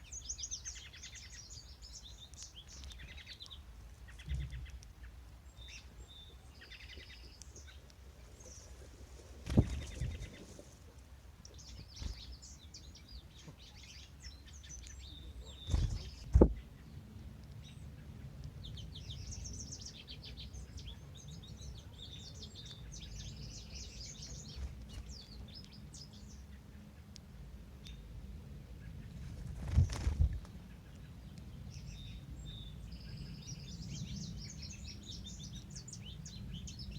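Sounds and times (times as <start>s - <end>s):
low background rumble: 0.0s - 36.9s
songbirds singing: 0.0s - 36.9s.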